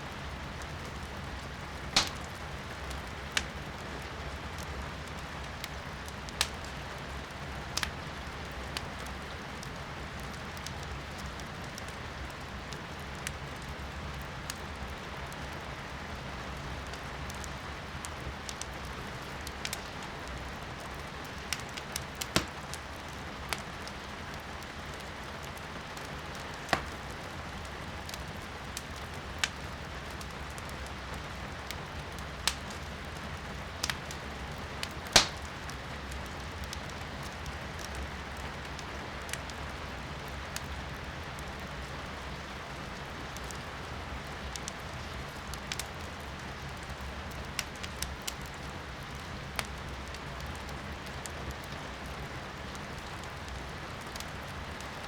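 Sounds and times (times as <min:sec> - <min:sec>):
firewood crackling and popping: 0:00.0 - 0:55.0
rain patter: 0:00.0 - 0:55.0.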